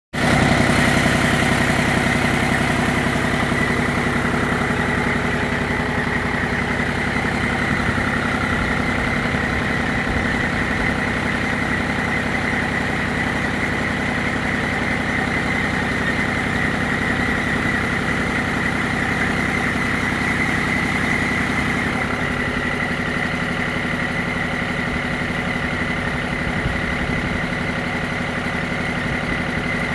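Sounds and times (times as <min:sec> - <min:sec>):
machinery humming with high whine: 0:00.2 - 0:29.9.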